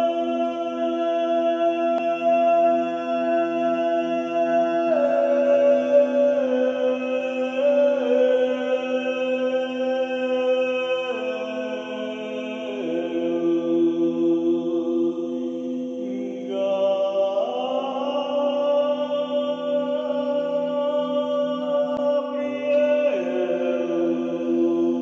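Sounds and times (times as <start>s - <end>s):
person chanting long notes: 0.0s - 25.0s
singing bowl drone: 0.0s - 25.0s.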